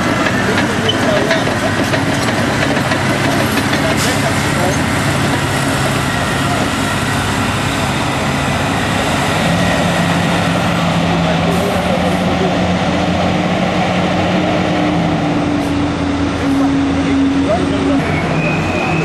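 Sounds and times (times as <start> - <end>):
dump truck engine reversing: 0.0 - 19.0
heavy diesel engines running: 0.0 - 19.0.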